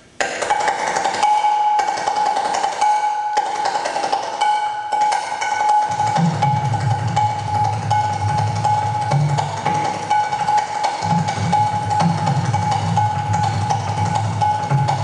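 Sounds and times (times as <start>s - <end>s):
fast hand drumming: 0.2s - 15.0s
steady high ringing note: 0.5s - 15.0s.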